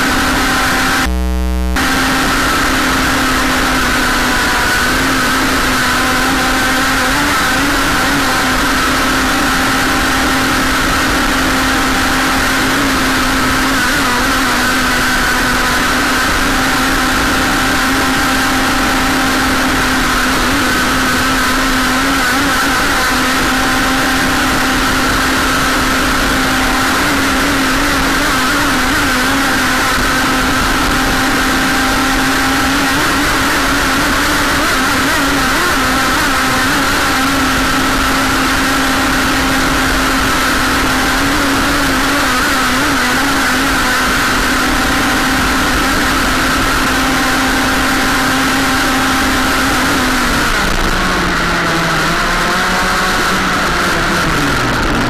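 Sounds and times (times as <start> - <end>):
model boat motor humming: 0.0 - 55.0.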